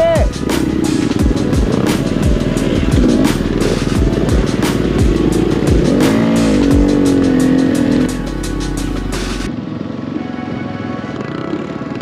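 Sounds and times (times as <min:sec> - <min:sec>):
motorcycle engine revving: 0:00.0 - 0:10.2
music playing: 0:00.0 - 0:12.0.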